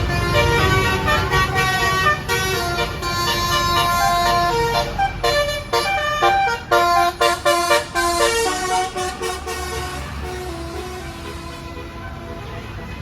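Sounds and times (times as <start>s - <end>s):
bus air horn playing a tune: 0.0s - 13.0s.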